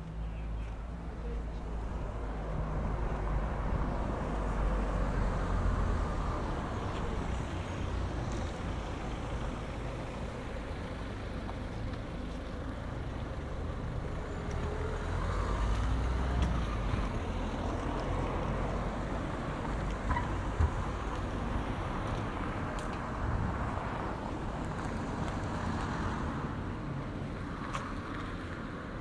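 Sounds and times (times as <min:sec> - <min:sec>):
street background noise: 0:00.0 - 0:29.0.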